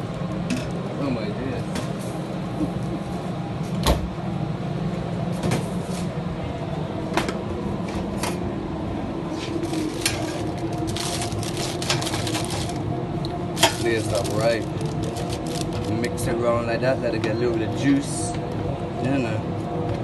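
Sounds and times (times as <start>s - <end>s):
wok burner roar: 0.0s - 20.0s.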